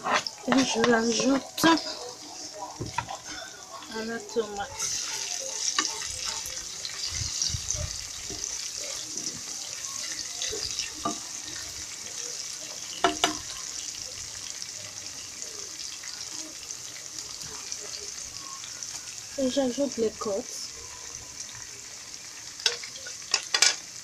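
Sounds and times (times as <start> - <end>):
vegetables sizzling in hot oil: 0.0 - 24.0.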